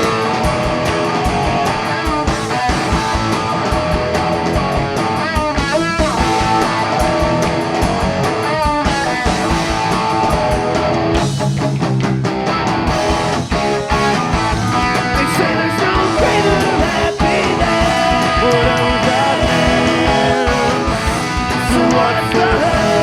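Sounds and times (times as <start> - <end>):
electric guitars strumming: 0.0 - 23.0
fast steady drum beat: 0.0 - 23.0.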